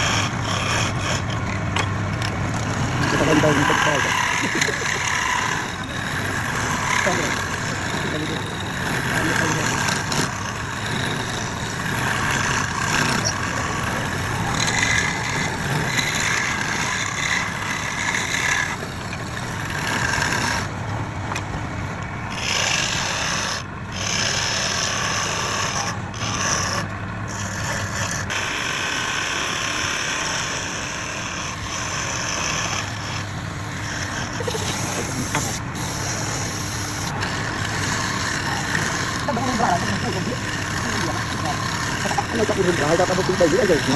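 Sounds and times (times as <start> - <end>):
lathe motor hum: 0.0 - 43.9
turning tool scraping wood: 0.0 - 43.9.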